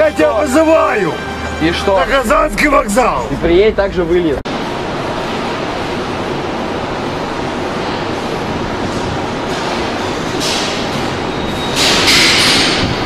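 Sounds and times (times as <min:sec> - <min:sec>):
loud station hall noise: 0:00.0 - 0:11.9.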